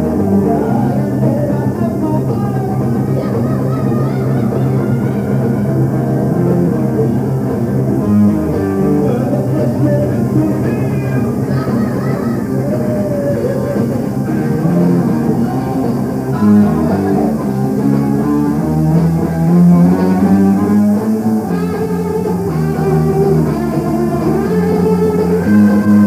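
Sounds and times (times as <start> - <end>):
hard rock band playing live: 0.0 - 26.0.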